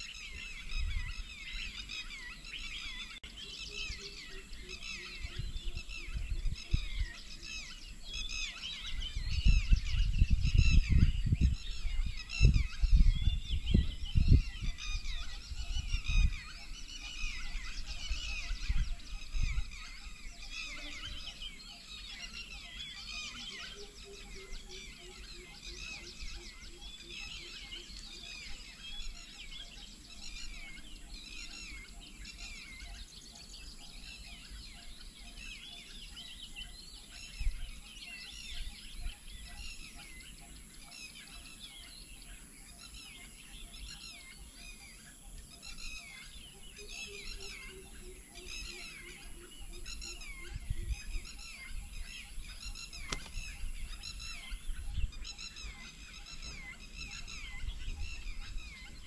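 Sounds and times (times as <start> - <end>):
birds chirping in chorus: 0.0 - 59.0.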